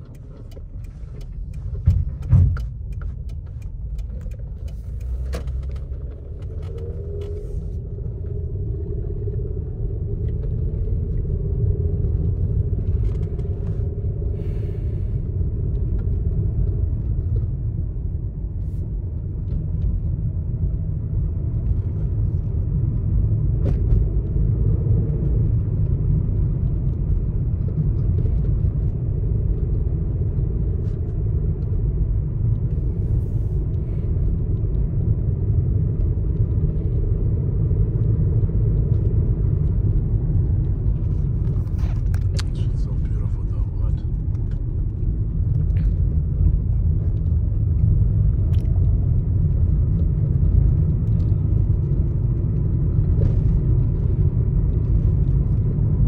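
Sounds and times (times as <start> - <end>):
car engine and road noise: 0.0 - 56.0
faint wavering engine drone: 2.7 - 56.0.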